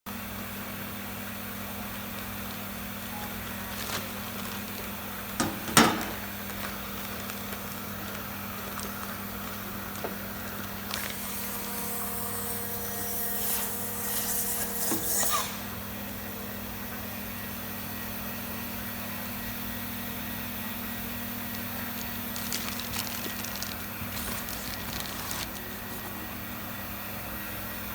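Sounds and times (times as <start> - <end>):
vacuum packaging machine humming: 0.2 - 27.9.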